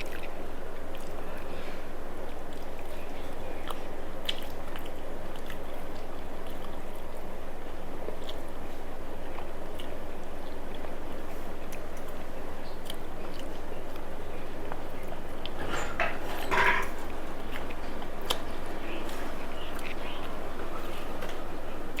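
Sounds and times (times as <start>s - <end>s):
person chewing food: 2.2s - 15.7s, 17.0s - 21.3s.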